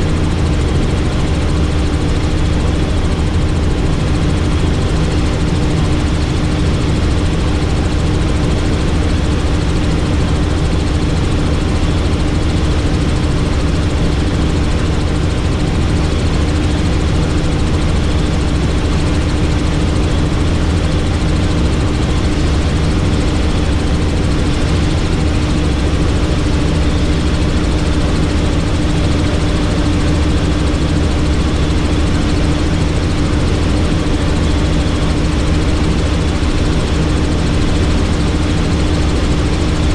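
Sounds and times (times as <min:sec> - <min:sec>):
helicopter flying: 0:00.0 - 0:39.9.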